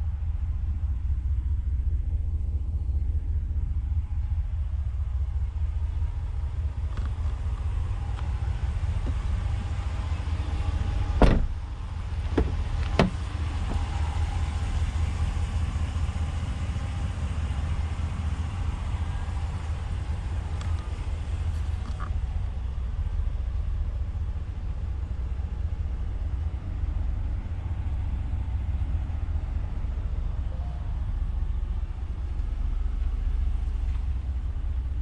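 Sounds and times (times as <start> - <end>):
low vehicle rumble: 0.0 - 35.0.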